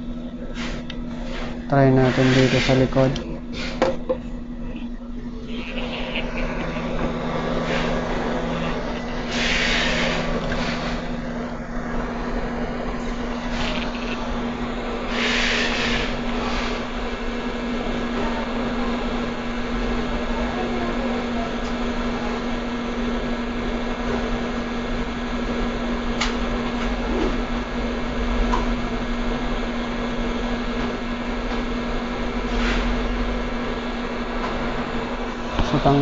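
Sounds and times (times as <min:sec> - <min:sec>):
hot air station blowing: 0:00.0 - 0:36.0
motor hum: 0:00.0 - 0:36.0.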